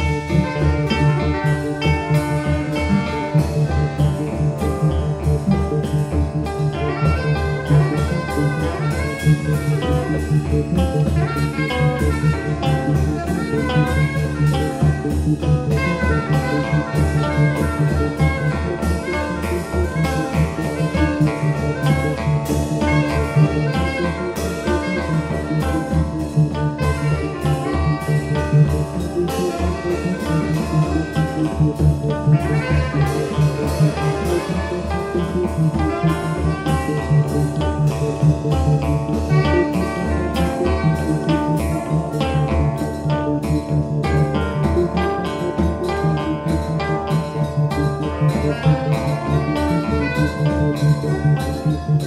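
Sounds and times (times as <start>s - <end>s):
jazz ensemble playing: 0.0s - 52.0s.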